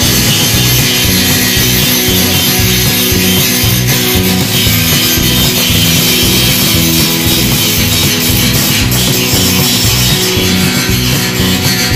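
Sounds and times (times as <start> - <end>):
loud music with steady beat: 0.0 - 11.9.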